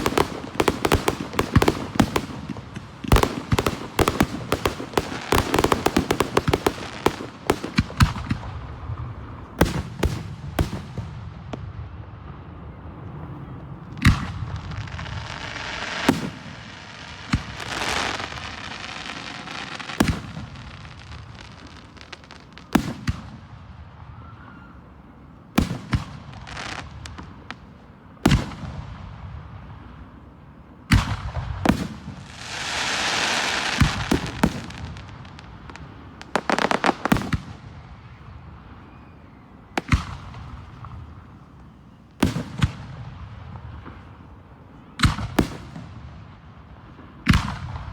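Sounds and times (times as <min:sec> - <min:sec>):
fireworks hissing crackle: 0:00.0 - 0:11.1, 0:14.1 - 0:24.2, 0:25.6 - 0:29.9, 0:30.9 - 0:44.2.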